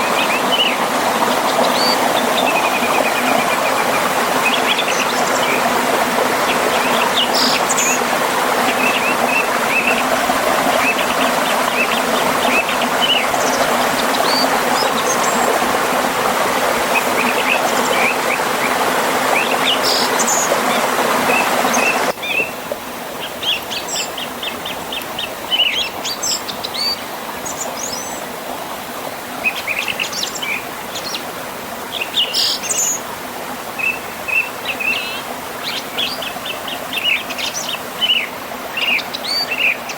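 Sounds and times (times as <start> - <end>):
songbirds chirping and trilling: 0.0 - 28.3, 31.9 - 33.1, 33.7 - 39.9
river and waterfall rushing: 0.0 - 39.9.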